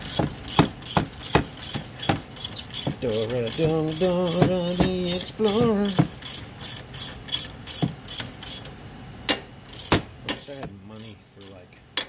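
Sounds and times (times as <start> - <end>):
ratchet wrench clicking: 0.0 - 8.7, 9.7 - 11.6.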